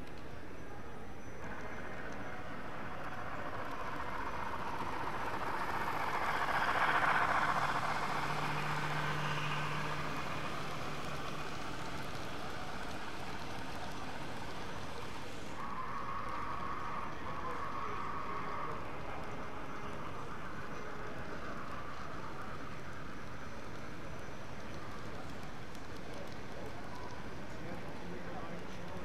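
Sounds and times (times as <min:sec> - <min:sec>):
train passing close by: 0:00.0 - 0:29.0.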